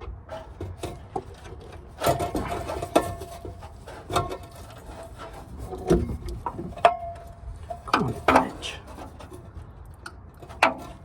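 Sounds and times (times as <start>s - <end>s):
rubbing and scraping: 0.0s - 11.0s.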